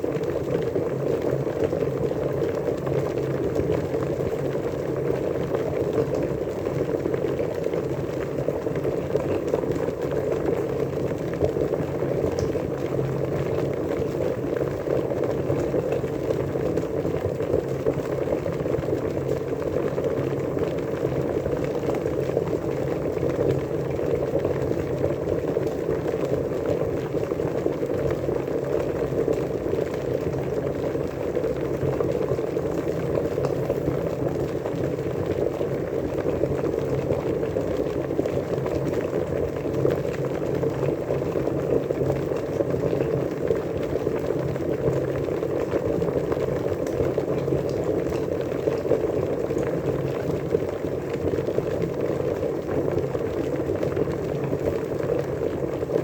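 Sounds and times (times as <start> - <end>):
water boiling: 0.0 - 56.0.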